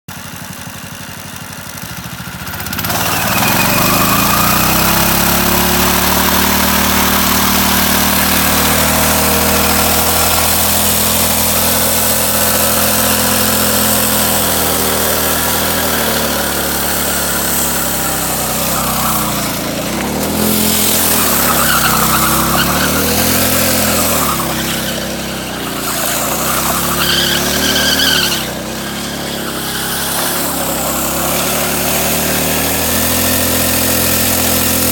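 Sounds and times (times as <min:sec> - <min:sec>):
engine revving: 0:01.1 - 0:34.9.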